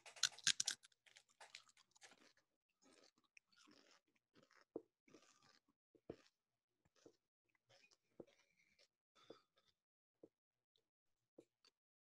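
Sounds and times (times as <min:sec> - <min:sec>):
chewing and crunching food: 0:00.0 - 0:09.8.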